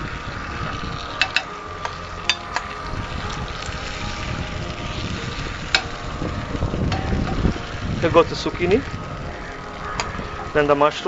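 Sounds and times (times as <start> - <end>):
zucchini sizzling in a frying pan: 0.0 - 11.0.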